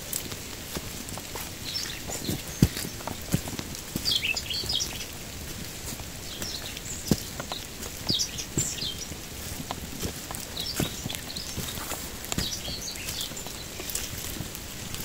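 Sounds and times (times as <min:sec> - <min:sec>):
footsteps on muddy trail: 0:00.0 - 0:15.0
birds chirping: 0:00.6 - 0:15.0.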